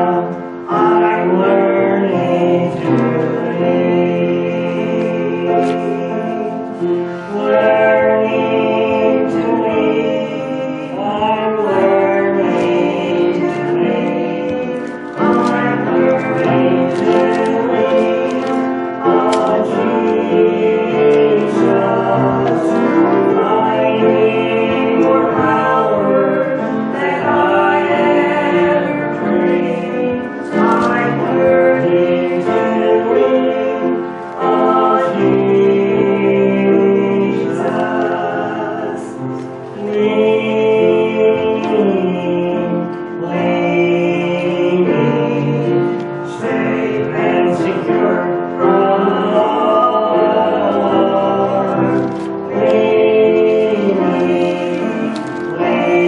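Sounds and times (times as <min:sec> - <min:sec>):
man singing into a microphone: 0:00.0 - 0:56.0.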